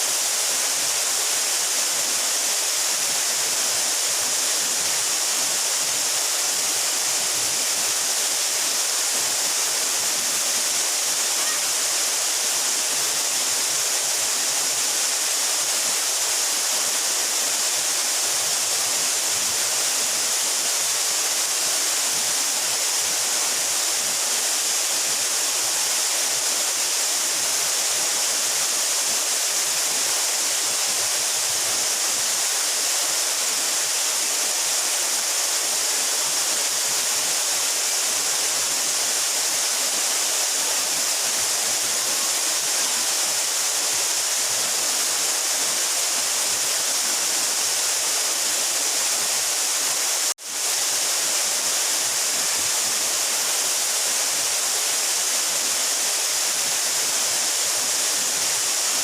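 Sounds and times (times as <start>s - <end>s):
waterfall pouring into pool: 0.0s - 59.0s.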